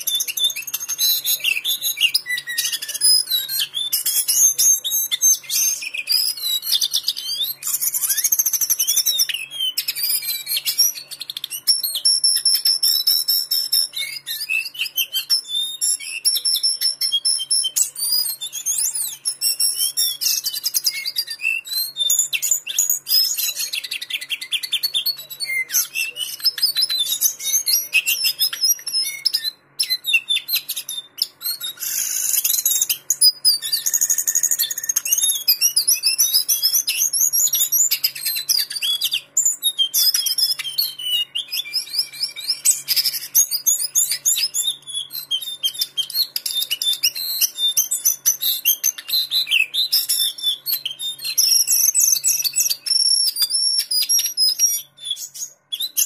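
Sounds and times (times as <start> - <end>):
bird singing high warbling trills: 0.0 - 56.0.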